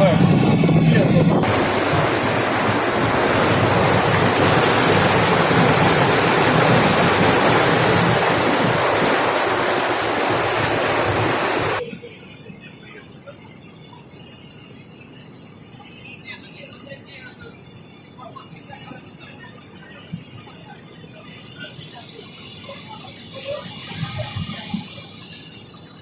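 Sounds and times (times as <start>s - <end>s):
water and wind rushing: 0.0s - 26.0s.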